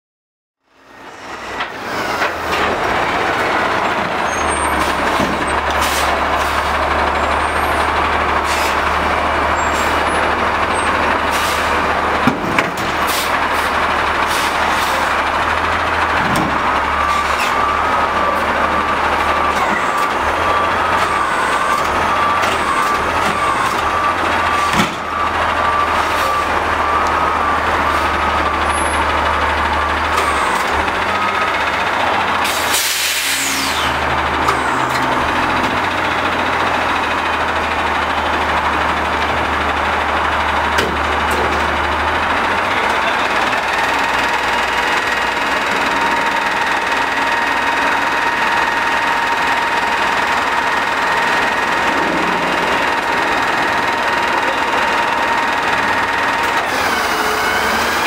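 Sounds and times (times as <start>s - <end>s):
garbage truck engine running: 0.6s - 58.0s.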